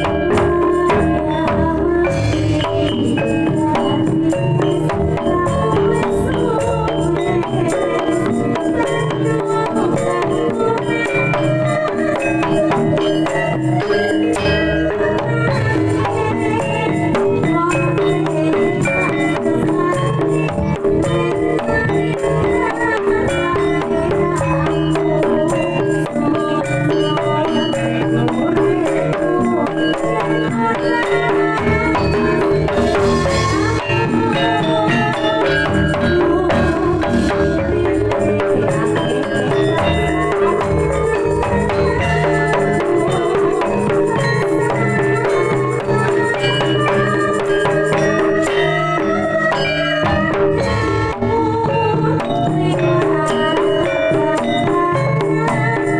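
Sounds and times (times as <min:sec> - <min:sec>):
hand drums rhythm: 0:00.0 - 0:55.9
rattling percussion: 0:00.0 - 0:55.9
repeating pitched melodic tones: 0:00.0 - 0:55.9.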